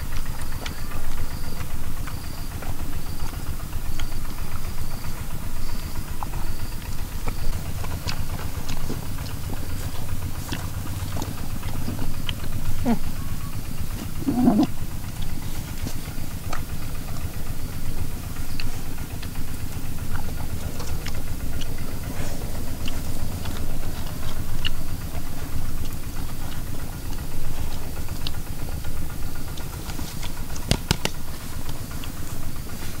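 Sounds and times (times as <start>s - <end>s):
puppies chewing and licking: 0.0s - 33.0s
steady low rumble: 0.0s - 33.0s
small wet clicks: 6.0s - 33.0s.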